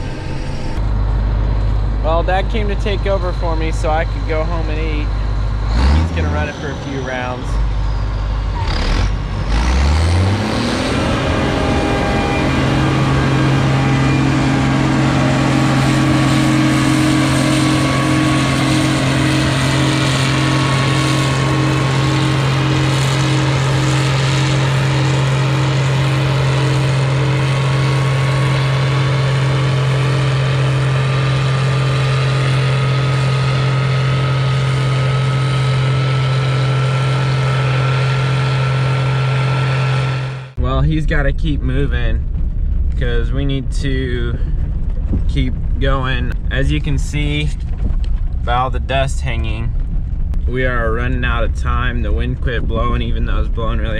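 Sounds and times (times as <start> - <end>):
faint rising whine: 0.0 - 53.9
vehicle engine revving: 0.0 - 53.9.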